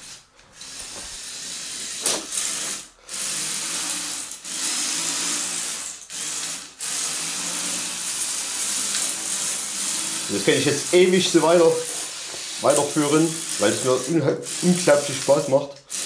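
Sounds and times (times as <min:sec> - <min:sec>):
electric motors and gears whirring: 0:00.0 - 0:16.0.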